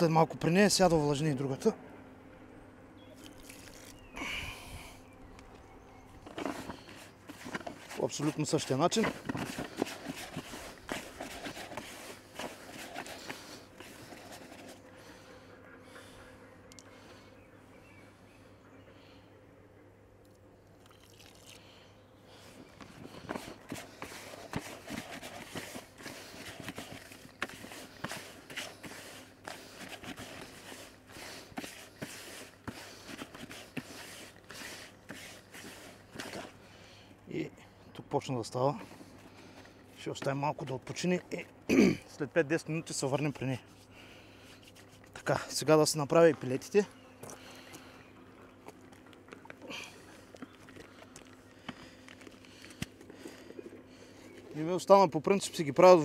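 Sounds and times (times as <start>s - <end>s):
groundbait mixed by hand in bucket: 3.2s - 5.1s, 6.0s - 15.3s, 20.2s - 41.3s, 42.8s - 56.0s.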